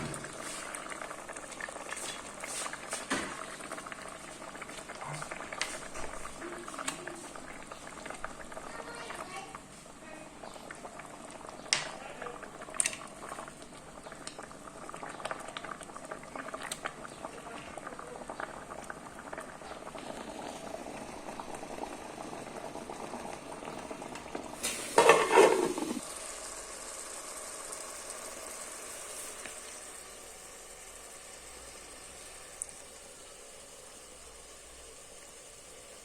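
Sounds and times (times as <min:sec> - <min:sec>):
fish bubbling and crackling: 0:00.0 - 0:36.0.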